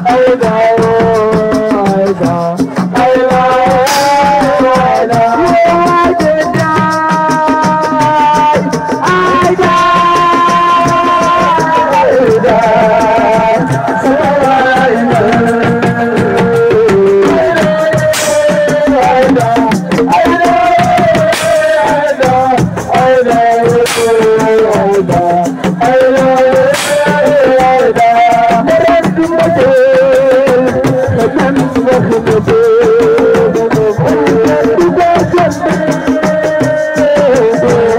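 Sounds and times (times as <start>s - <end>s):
fast dense drum rhythm: 0.0s - 37.9s
person singing wavering melody: 0.0s - 37.9s.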